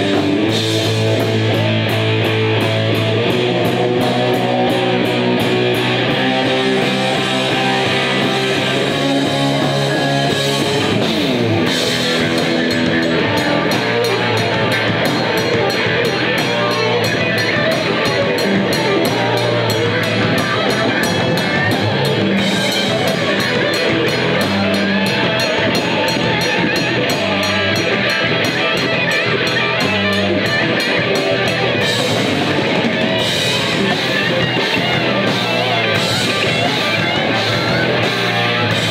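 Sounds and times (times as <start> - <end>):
bass guitar: 0.0 - 38.9
drums and cymbals: 0.0 - 38.9
electric guitar chords: 0.0 - 38.9.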